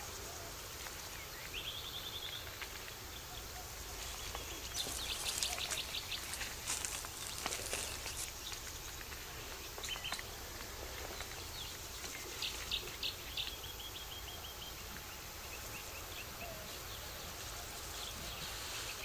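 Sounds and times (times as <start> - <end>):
birds chirping: 0.0 - 19.0
outdoor ambience hiss: 0.0 - 19.0.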